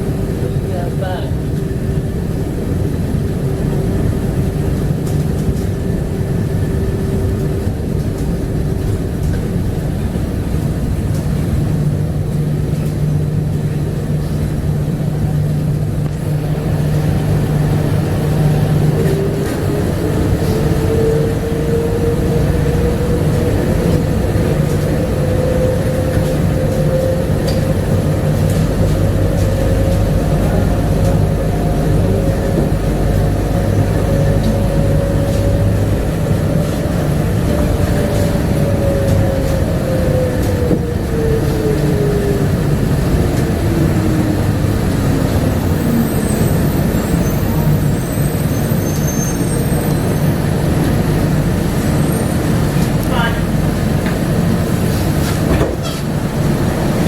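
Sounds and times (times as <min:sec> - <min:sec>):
train rumbling on guideway: 0:00.0 - 0:57.0.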